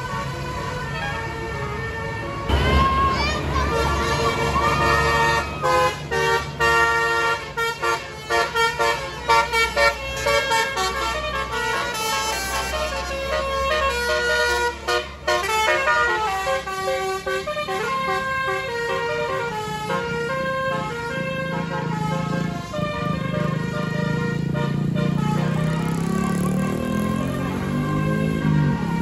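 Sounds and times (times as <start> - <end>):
musical bus horn playing tune: 0.0 - 29.0.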